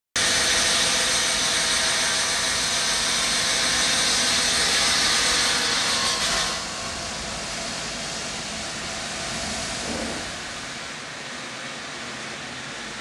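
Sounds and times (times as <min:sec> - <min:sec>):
stone saw hissing whir: 0:00.2 - 0:10.8.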